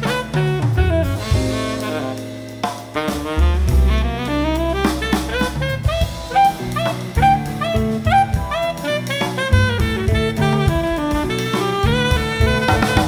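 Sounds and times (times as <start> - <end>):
jazz quartet playing: 0.0 - 13.0.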